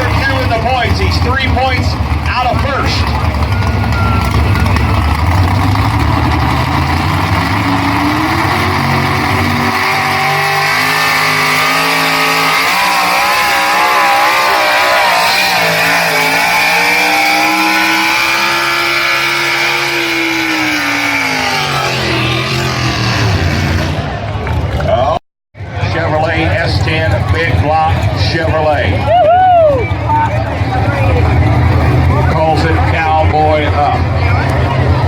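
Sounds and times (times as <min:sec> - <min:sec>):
truck engine at full throttle: 0:00.0 - 0:35.0.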